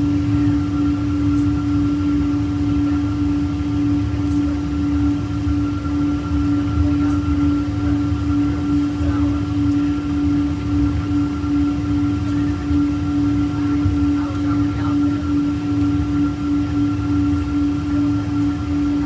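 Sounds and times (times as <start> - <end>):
aircraft cabin drone: 0.0 - 19.0.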